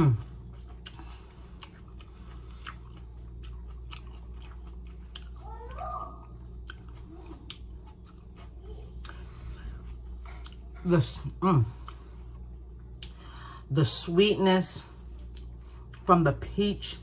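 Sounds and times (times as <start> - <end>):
person chewing crunchy salad: 0.0 - 14.2, 14.9 - 17.0
steady low hum: 0.0 - 17.0.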